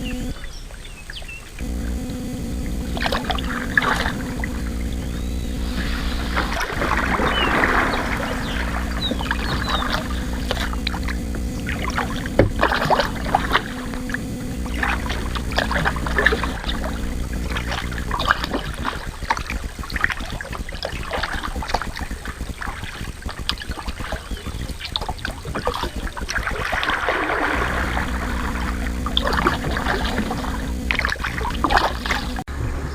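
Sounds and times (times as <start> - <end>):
paddle splashing water: 0.0 - 32.5
low rumble: 1.6 - 32.9.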